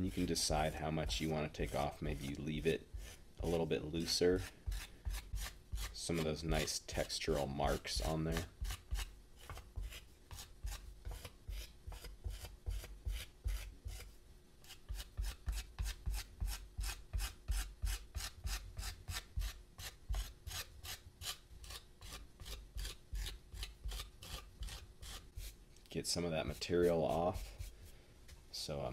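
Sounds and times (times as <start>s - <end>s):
metal rib scraping clay: 0.0s - 27.9s.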